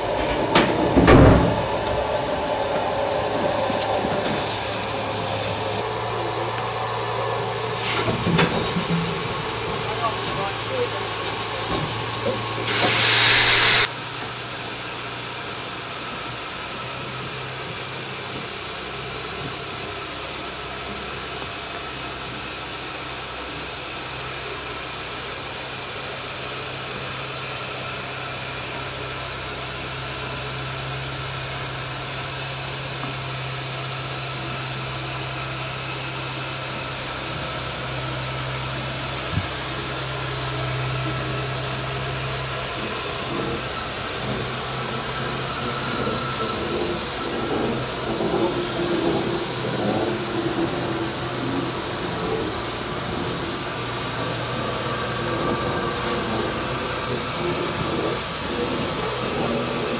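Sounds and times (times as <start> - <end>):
steam hissing from locomotive: 0.0 - 13.9, 15.9 - 59.9.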